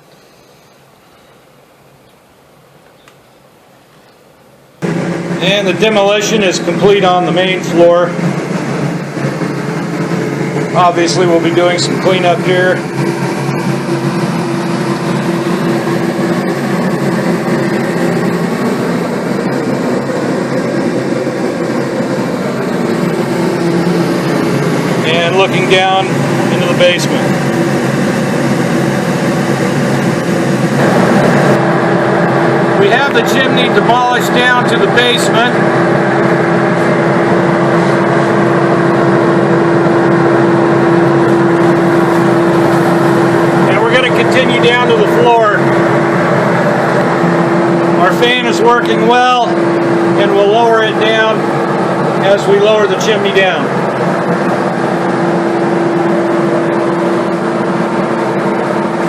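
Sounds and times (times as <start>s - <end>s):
exhaust fan rushing air: 0.0s - 59.0s.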